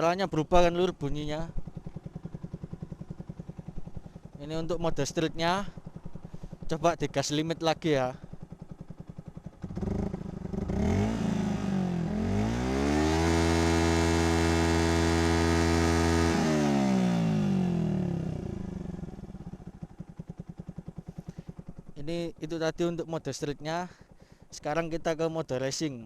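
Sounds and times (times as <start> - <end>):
motorcycle engine revving: 0.0 - 25.1.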